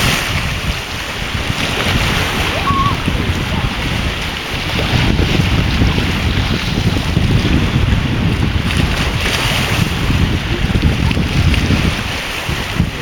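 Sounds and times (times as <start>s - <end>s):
sea waves splashing on shore: 0.0s - 13.0s
wind buffeting microphone: 0.0s - 13.0s.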